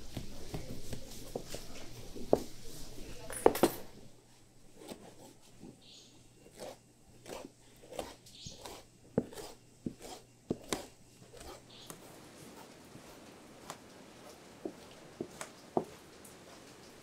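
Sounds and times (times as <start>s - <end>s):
hands rolling dough: 0.0s - 17.0s.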